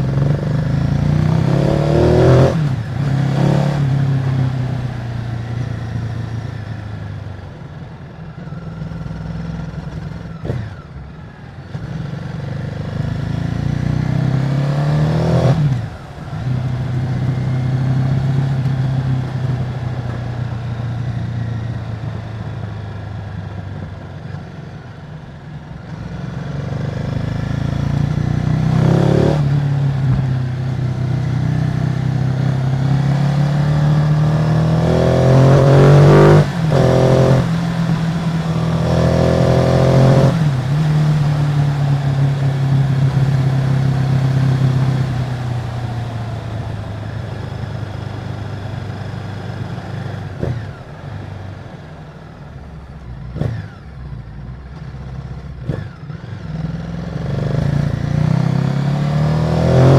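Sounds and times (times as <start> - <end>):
motorcycle engine revving: 0.0 - 7.8, 8.6 - 24.4, 25.9 - 59.9.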